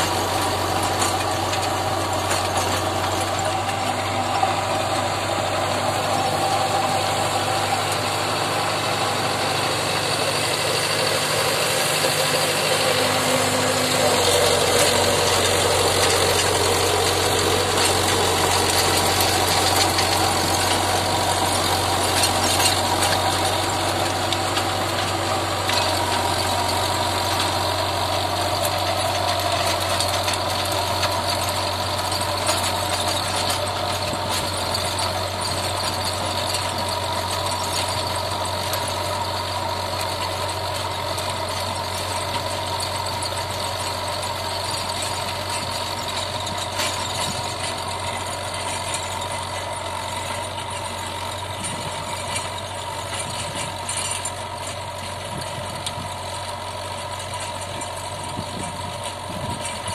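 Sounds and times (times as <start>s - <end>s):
rotavator tilling hard soil: 0.0s - 59.9s
tractor engine running under load: 0.0s - 59.9s.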